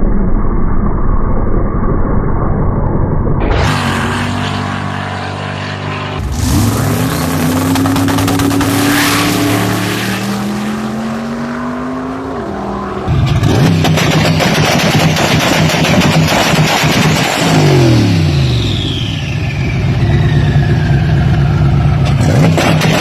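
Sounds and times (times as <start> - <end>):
harsh engine sound: 2.8 - 23.0
car engine under load: 3.6 - 23.0.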